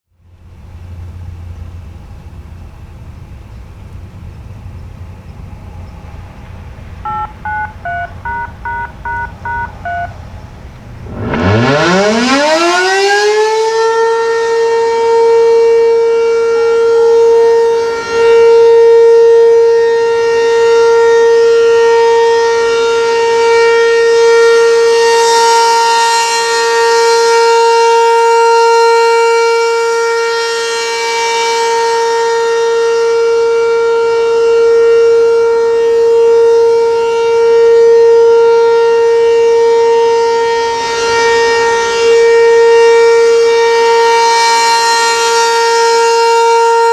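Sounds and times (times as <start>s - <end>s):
warning siren steady tone: 7.0s - 46.9s.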